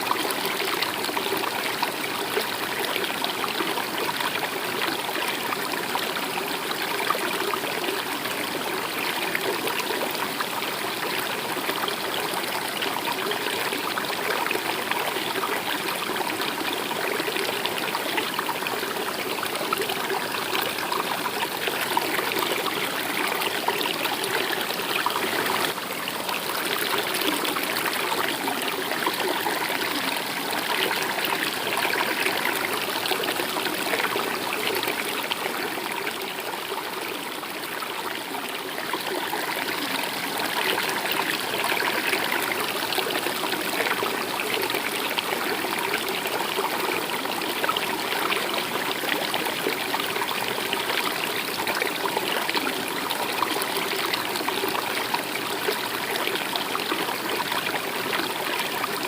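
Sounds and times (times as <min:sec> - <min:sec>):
stream trickling: 0:00.0 - 0:59.0.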